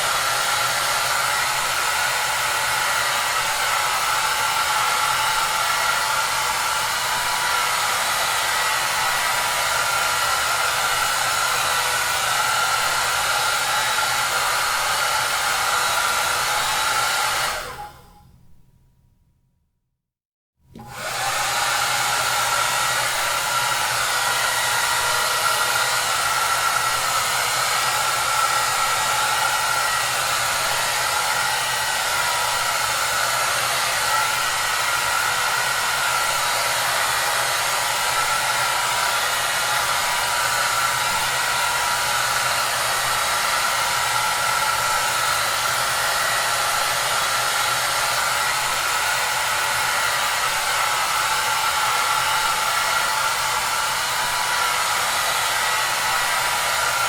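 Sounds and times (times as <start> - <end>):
hair dryer running: 0.0 - 18.2, 20.7 - 57.0.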